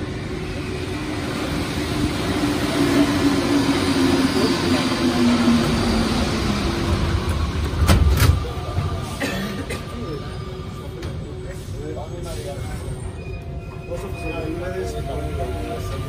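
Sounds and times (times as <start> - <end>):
metro train braking with whine: 0.0 - 16.0.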